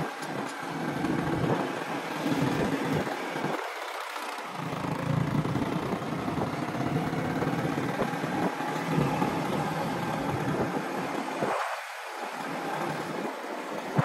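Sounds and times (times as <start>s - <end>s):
wind rushing over microphone: 0.0s - 3.8s, 4.4s - 14.0s
motorcycle engine running: 0.0s - 14.0s.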